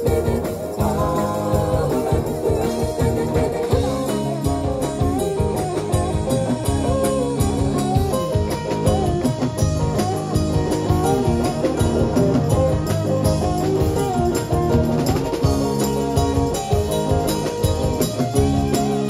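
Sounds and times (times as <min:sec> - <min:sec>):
drum kit: 0:00.0 - 0:19.0
electric guitar lead: 0:00.0 - 0:19.0.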